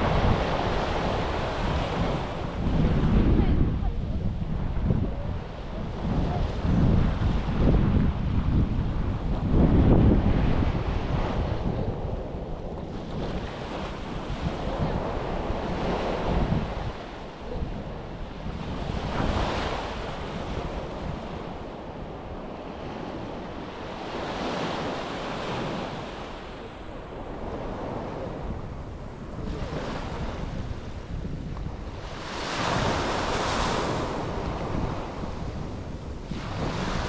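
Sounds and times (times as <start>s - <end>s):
sea waves breaking on beach: 0.0s - 8.2s, 8.8s - 37.0s
wind buffeting microphone: 0.0s - 37.0s.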